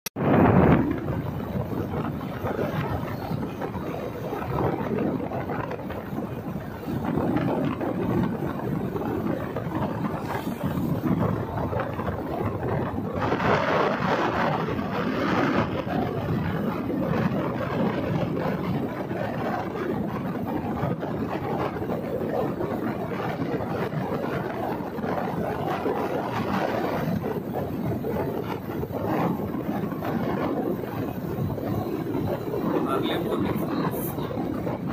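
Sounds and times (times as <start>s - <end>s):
wind buffeting microphone: 0.1s - 34.9s
motorcycle rumble: 0.2s - 34.9s.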